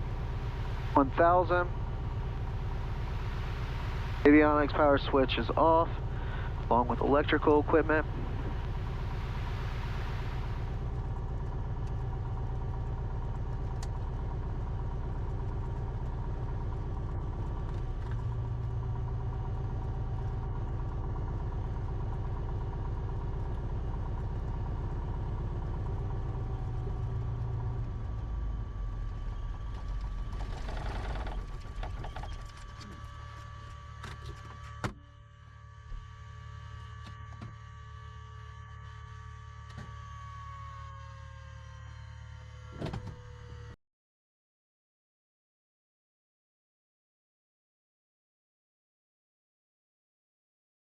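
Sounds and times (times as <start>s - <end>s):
aircraft engine idling: 0.0s - 43.3s.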